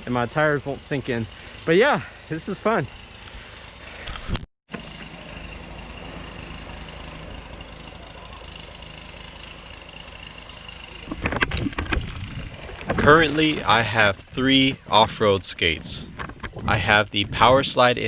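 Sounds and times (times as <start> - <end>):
skate wheels rolling on trail: 1.0 - 17.0.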